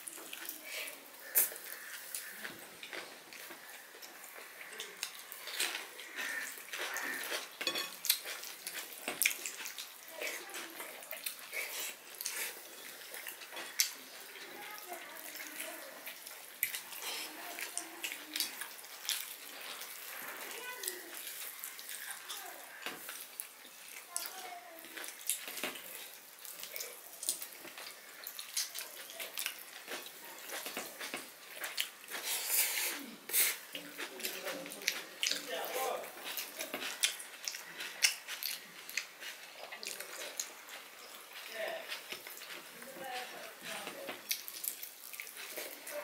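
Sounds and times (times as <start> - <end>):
wet chewing and mouth smacks: 0.0 - 46.0.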